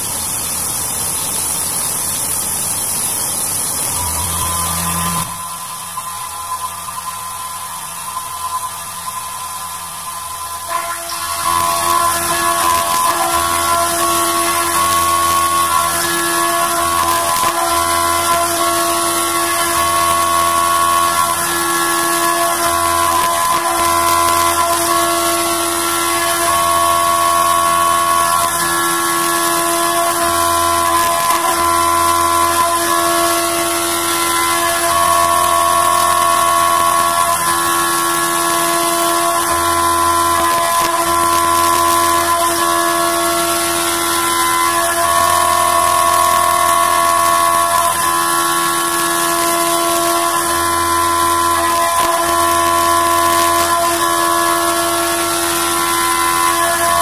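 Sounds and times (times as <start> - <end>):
milling machine whine: 0.0 - 57.0.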